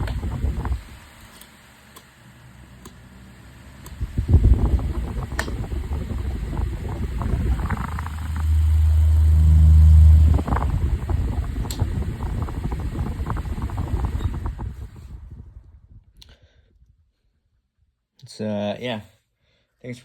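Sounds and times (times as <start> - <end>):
low hum: 0.0 - 1.3, 2.5 - 17.4
fan airflow rumbling: 0.0 - 17.5.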